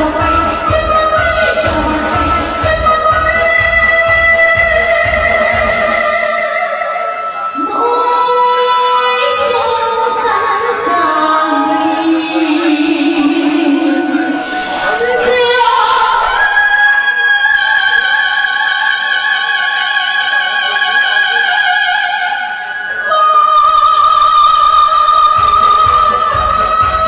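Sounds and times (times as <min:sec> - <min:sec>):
woman singing into microphone: 0:00.0 - 0:27.0.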